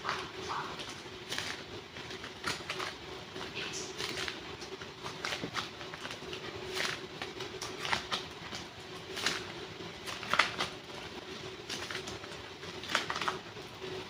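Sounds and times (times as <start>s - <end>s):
clay packaging crackling: 0.0s - 14.0s
faint steady hum: 0.0s - 14.0s.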